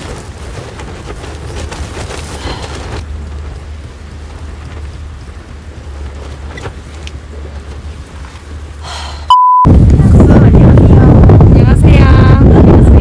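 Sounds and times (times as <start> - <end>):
wind buffeting microphone: 0.0 - 9.0, 9.7 - 13.0.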